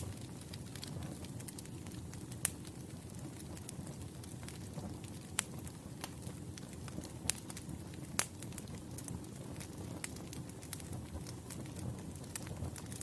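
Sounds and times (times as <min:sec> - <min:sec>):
campfire burning and crackling: 0:00.0 - 0:13.0.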